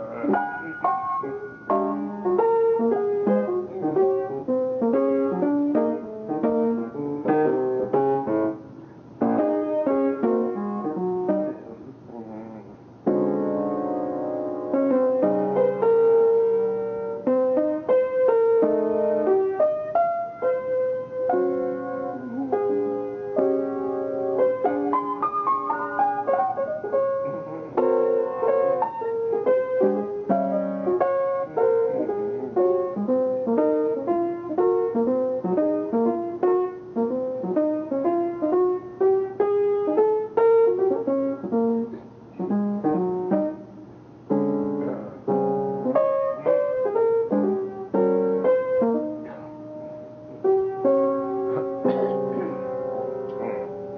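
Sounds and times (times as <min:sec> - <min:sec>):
jazz piano playing: 0:00.0 - 0:53.9.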